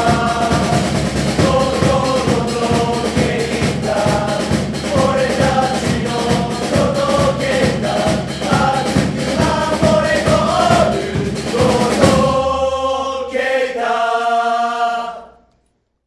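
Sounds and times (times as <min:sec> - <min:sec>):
steady drumbeat: 0:00.0 - 0:13.4
group singing a chant: 0:00.0 - 0:15.5.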